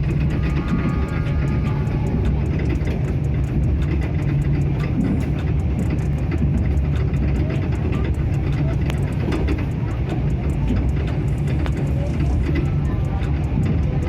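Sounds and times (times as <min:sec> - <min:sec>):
clicks and rattles: 0:00.0 - 0:14.0
passenger coach rumble: 0:00.0 - 0:14.0.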